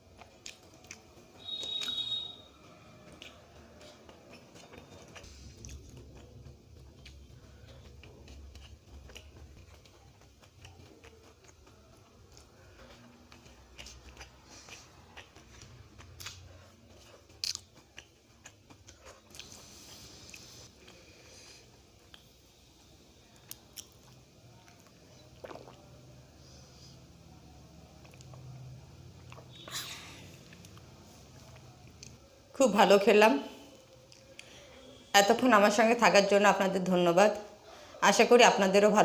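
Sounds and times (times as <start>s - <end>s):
person chewing food: 0.0s - 22.6s, 23.2s - 32.3s, 33.7s - 34.6s.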